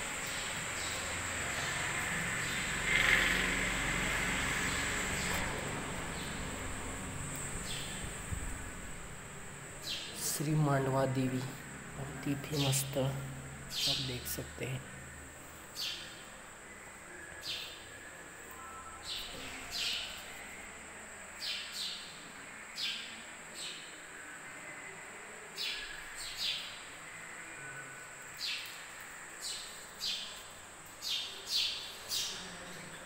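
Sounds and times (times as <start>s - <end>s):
small birds chirping: 0.0s - 8.7s, 9.6s - 24.8s, 28.3s - 33.0s.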